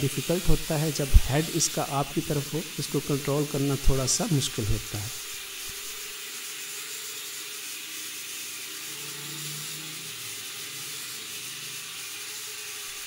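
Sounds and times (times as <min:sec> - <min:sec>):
toy drone propellers whirring: 0:00.0 - 0:13.0.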